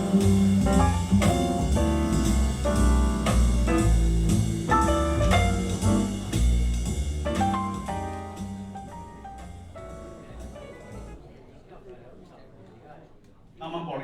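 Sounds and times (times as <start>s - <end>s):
jazz with drums piano and bass: 0.0s - 11.2s.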